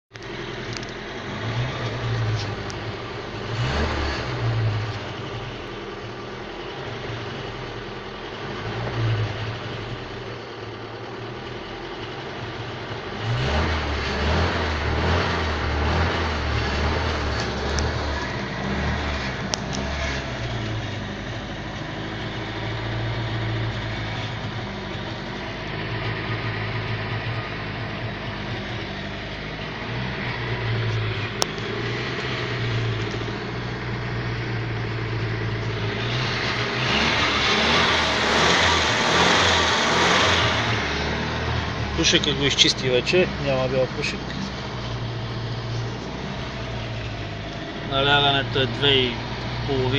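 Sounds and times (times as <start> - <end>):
car engine idling and revving: 0.0 - 49.9.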